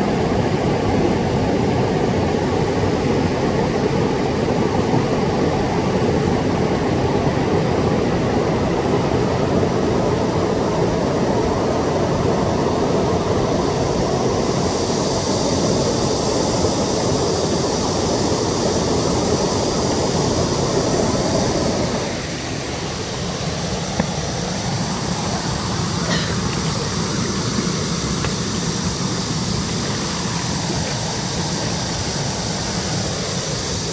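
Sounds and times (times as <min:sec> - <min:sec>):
high hiss: 0:00.0 - 0:33.9
waterfall and stream roaring: 0:00.0 - 0:33.9.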